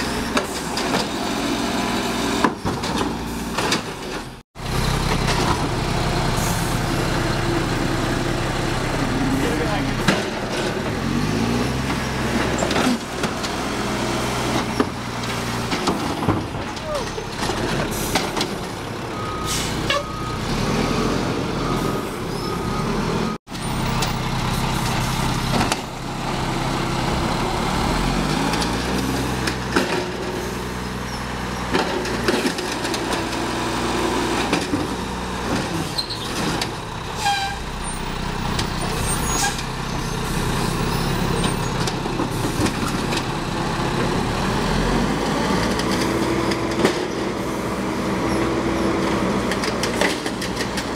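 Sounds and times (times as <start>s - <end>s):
garbage truck diesel engine revving: 4.2s - 50.9s.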